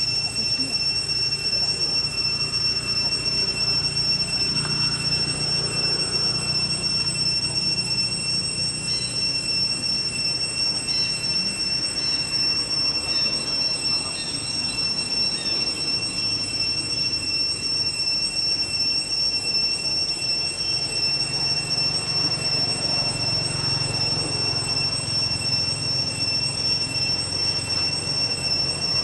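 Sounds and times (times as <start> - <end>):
cicadas droning: 0.0 - 29.0.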